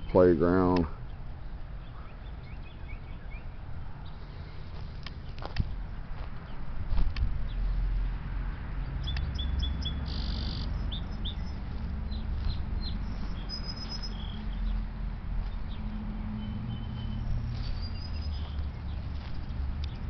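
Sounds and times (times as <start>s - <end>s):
small birds chirping: 0.0s - 8.2s, 8.8s - 20.0s
steady low rumble: 3.5s - 20.0s.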